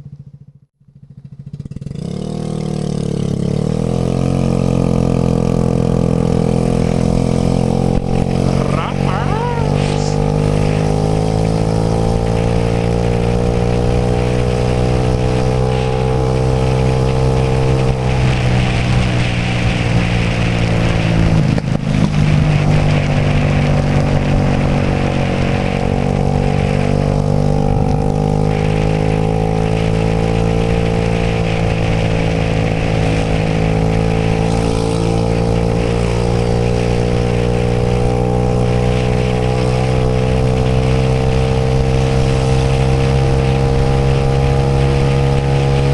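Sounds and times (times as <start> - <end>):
scooter engine running: 0.0 - 45.9.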